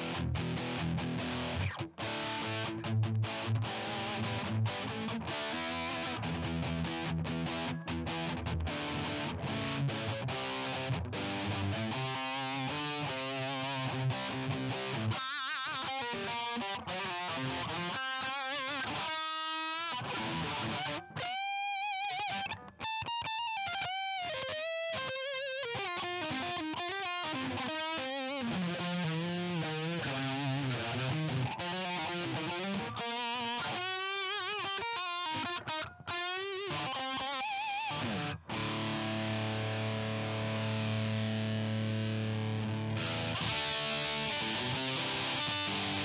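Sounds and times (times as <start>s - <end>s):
distorted electric guitar lead: 0.0s - 46.0s.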